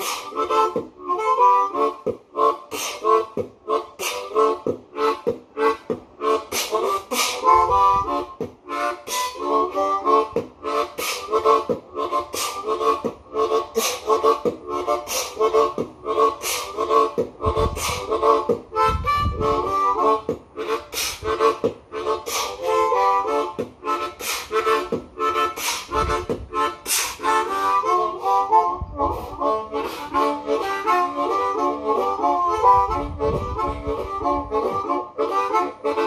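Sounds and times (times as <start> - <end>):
breathy beatbox hits: 0.0 - 36.0
harmonica riff: 0.0 - 36.0.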